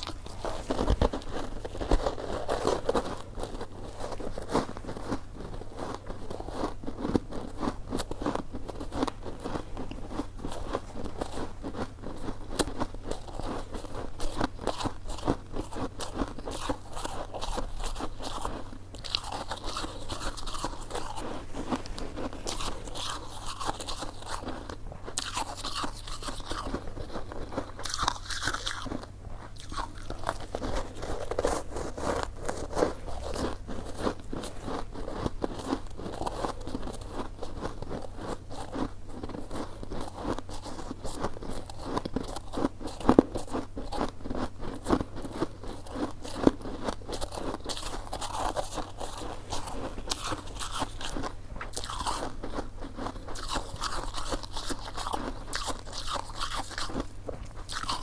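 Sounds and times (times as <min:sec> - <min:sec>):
chewing and biting rice cake: 0:00.0 - 0:58.0.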